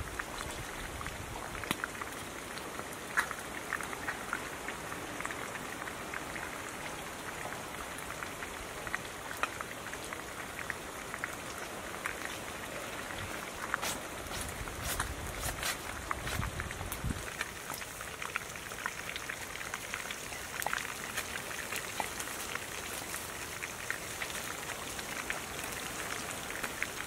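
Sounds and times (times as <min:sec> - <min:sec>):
juice dripping with small ticks: 0:00.0 - 0:27.0.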